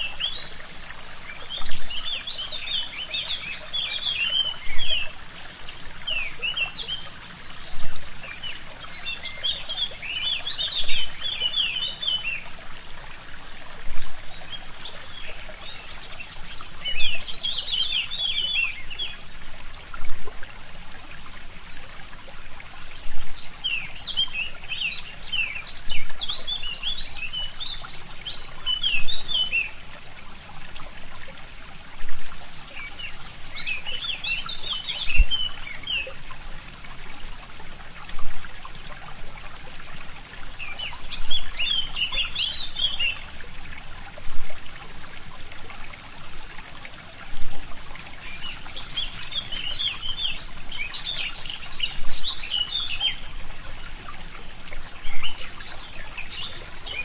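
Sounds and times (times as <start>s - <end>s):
songbirds chirping: 0.0s - 19.4s, 22.7s - 57.0s
stream trickling: 0.0s - 57.0s.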